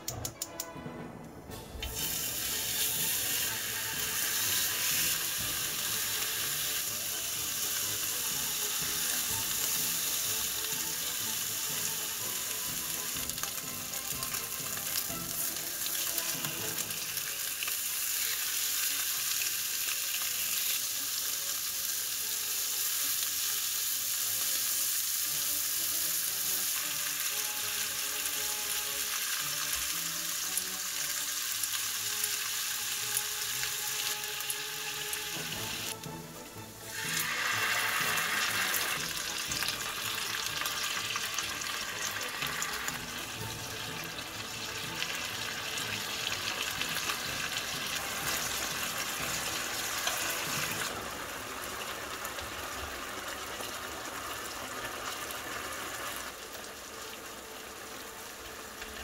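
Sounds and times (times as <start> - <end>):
meat sizzling on a griddle: 1.9 - 59.0.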